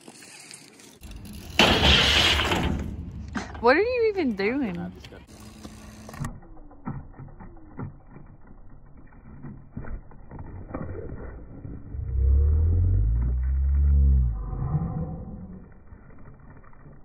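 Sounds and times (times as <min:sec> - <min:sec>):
skateboard wheels rumbling: 0:00.0 - 0:17.0.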